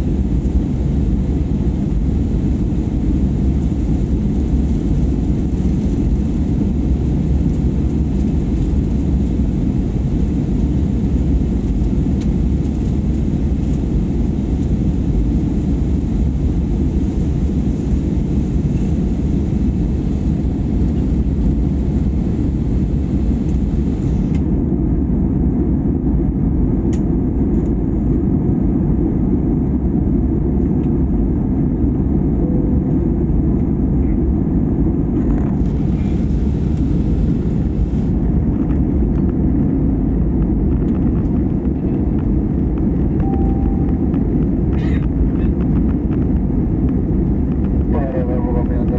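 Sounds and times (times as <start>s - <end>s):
airliner cabin engine rush: 0.0s - 48.9s.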